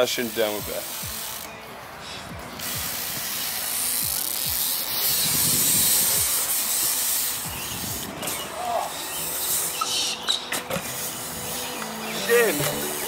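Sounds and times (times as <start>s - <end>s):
bike tyres rolling on concrete: 0.0s - 13.0s.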